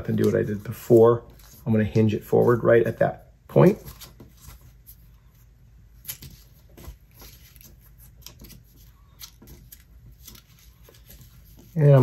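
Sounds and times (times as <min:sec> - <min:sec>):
paper rustling and creasing: 0:00.0 - 0:03.0, 0:03.6 - 0:12.0.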